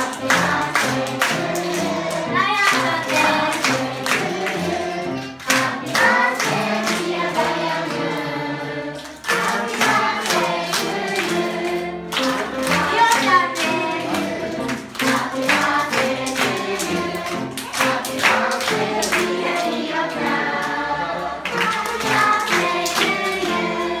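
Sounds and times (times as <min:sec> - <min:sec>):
hands clapping in time: 0:00.0 - 0:04.6, 0:05.2 - 0:07.6, 0:09.0 - 0:19.7, 0:20.6 - 0:23.8
children and adults singing: 0:00.0 - 0:24.0.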